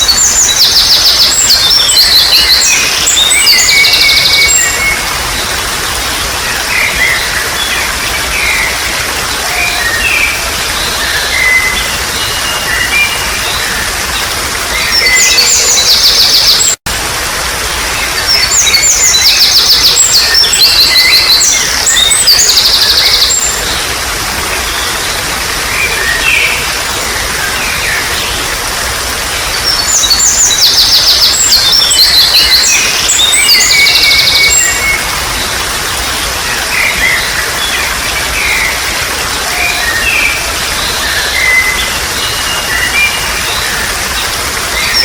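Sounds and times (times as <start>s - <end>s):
birds chirping: 0.0s - 16.8s, 17.5s - 45.0s
water trickling and splashing: 0.0s - 45.0s.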